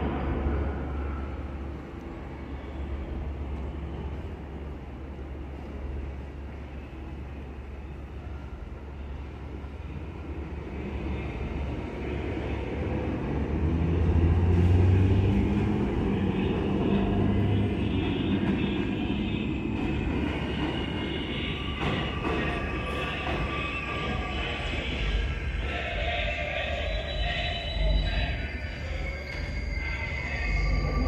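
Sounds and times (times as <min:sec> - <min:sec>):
subway train rumble and hum: 0:00.0 - 0:31.0.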